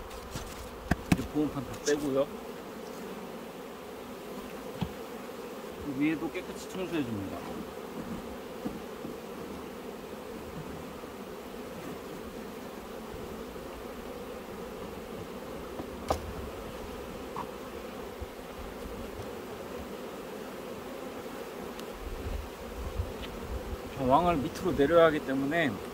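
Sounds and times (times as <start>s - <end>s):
honeybees buzzing: 0.0s - 25.9s.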